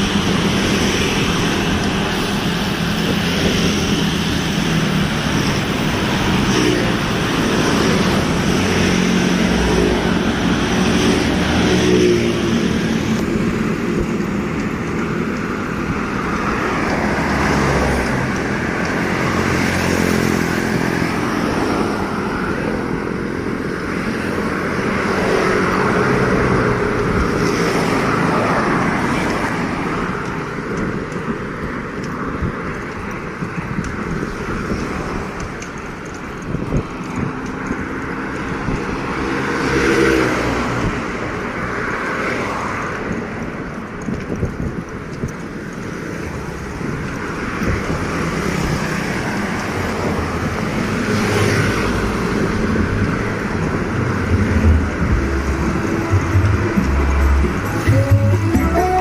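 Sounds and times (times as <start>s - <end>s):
traffic passing: 0.0s - 59.0s.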